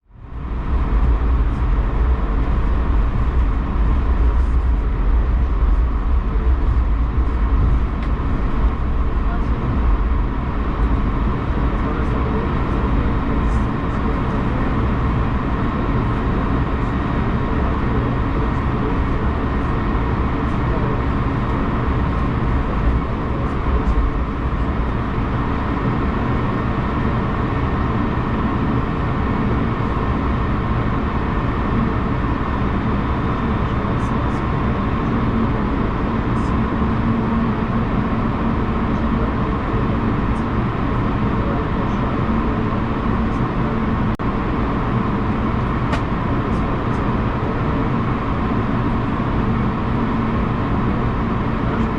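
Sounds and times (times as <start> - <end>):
aircraft cabin low rumble: 0.0 - 51.9
faint steady whine: 0.0 - 51.9.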